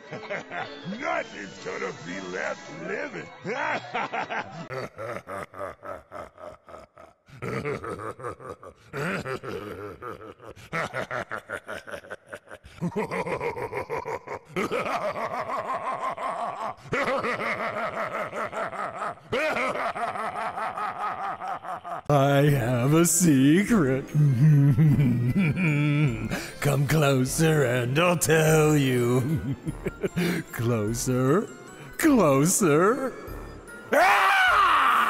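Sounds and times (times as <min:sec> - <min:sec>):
recorded clown laughter: 0:00.0 - 0:26.9, 0:28.9 - 0:30.7.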